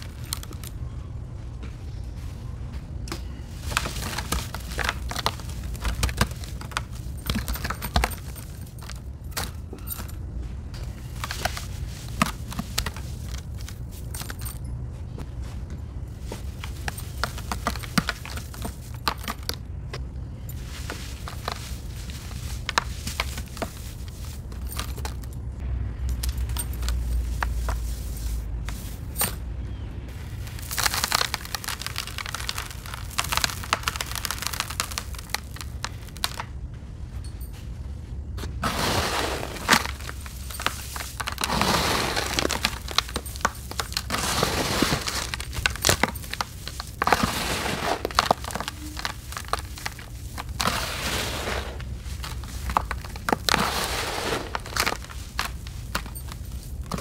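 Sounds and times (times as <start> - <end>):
low steady hum: 0.0 - 57.0
hands crunching damp sand: 3.2 - 10.1, 10.8 - 14.6, 16.0 - 19.6, 20.4 - 25.4, 26.0 - 29.4, 30.0 - 36.6, 38.4 - 57.0.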